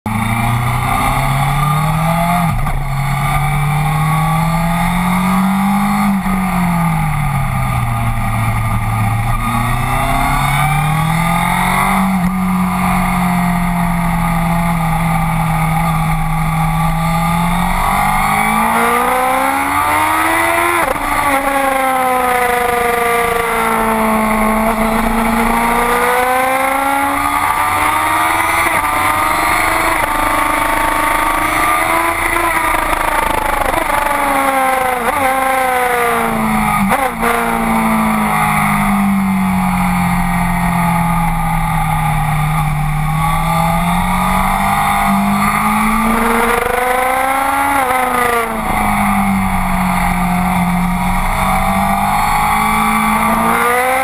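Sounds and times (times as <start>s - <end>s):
motorcycle engine revving: 0.1s - 54.0s.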